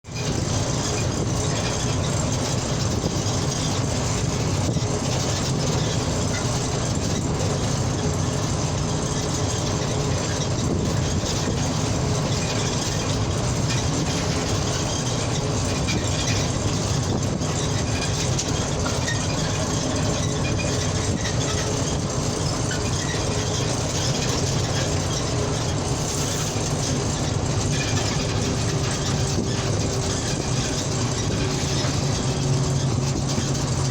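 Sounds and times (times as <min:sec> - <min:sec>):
car engine and tyre noise: 0:00.0 - 0:33.9.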